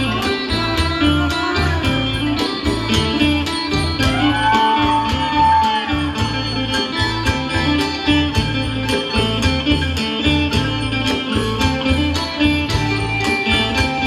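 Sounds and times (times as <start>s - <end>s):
drum and percussion beat: 0.0s - 14.0s
plucked lute melody: 0.0s - 14.0s.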